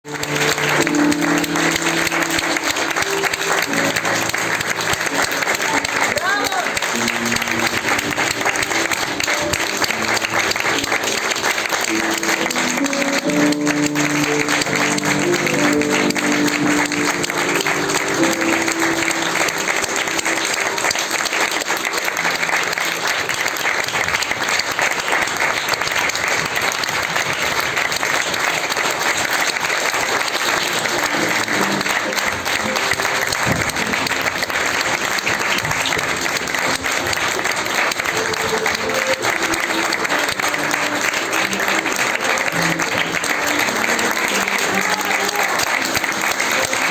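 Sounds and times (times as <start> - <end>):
instrumental music: 0.0 - 24.9, 27.1 - 46.9
audience applauding: 0.0 - 46.9.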